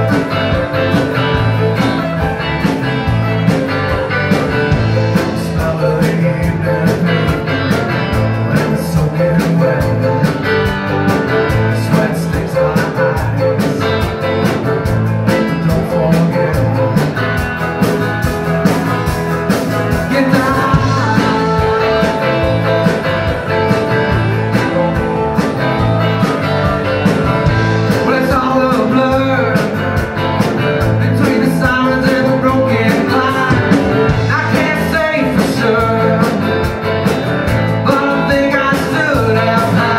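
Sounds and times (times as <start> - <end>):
live band playing: 0.0 - 39.9
steady drum beat: 0.0 - 39.9.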